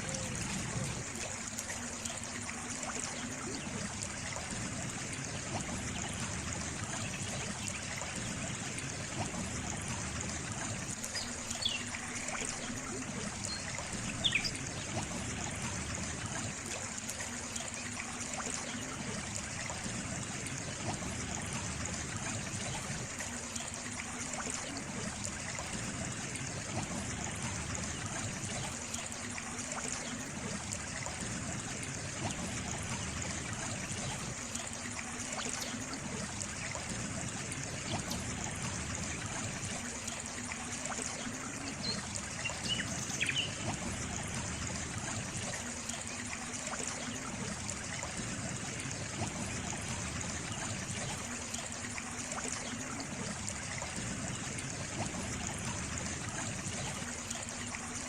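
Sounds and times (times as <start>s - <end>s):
water trickling: 0.0s - 58.0s.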